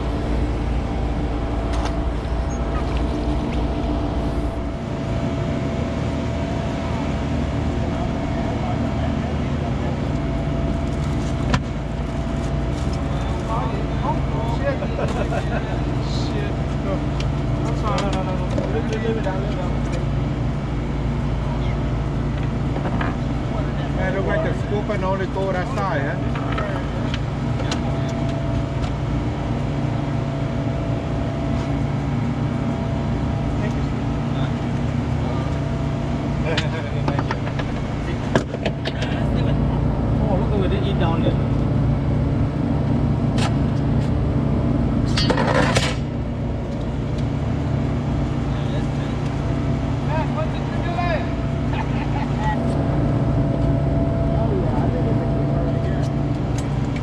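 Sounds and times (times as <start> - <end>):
boat engine humming: 0.0 - 57.0
faint steady whine: 0.0 - 57.0.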